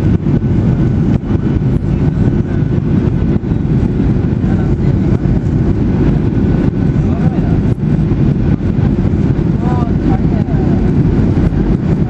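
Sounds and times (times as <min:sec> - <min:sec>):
airplane cabin rumble: 0:00.0 - 0:12.0
faint steady whine: 0:00.0 - 0:12.0.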